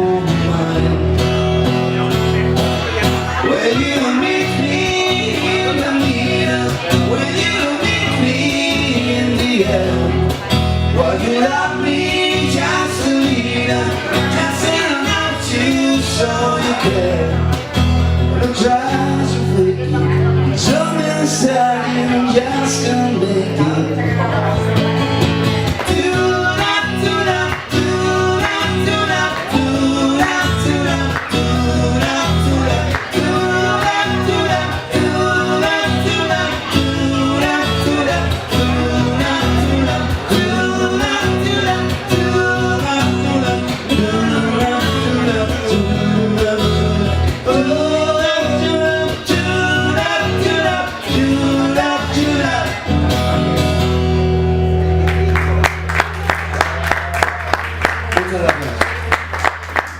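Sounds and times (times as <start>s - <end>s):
live band playing pop-rock: 0.0s - 59.7s.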